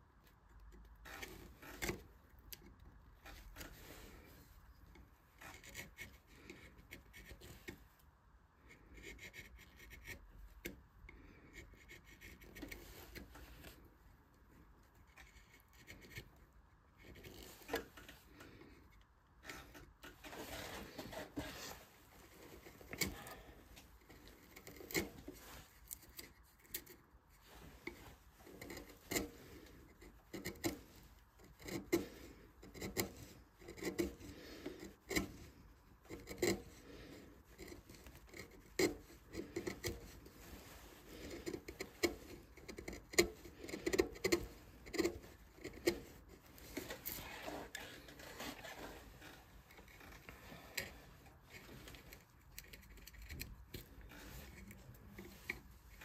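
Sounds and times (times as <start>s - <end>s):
chisel scraping and clicking on wood: 0.2s - 8.0s, 8.6s - 56.0s.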